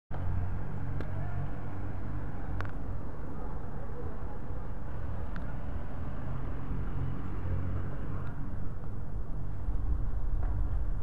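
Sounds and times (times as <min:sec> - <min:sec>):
distant city traffic rumble: 0:00.1 - 0:11.0.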